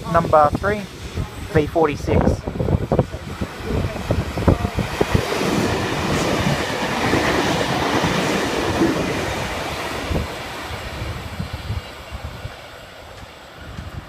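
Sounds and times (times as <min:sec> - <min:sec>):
train passing wheel-on-rail rush: 0:00.0 - 0:14.0.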